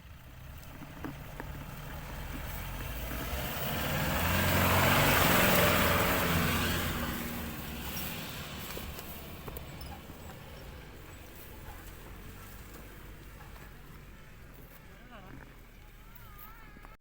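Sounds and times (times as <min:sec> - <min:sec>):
vehicle driving past: 0:00.0 - 0:16.0.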